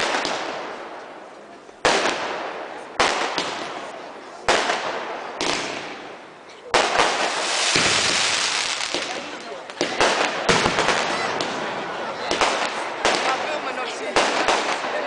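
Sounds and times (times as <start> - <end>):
fireworks bangs with echoing tails: 0.0 - 15.0.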